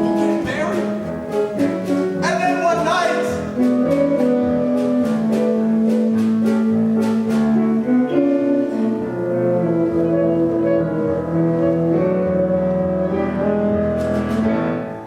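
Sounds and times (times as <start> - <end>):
stage musical accompaniment: 0.0 - 15.0.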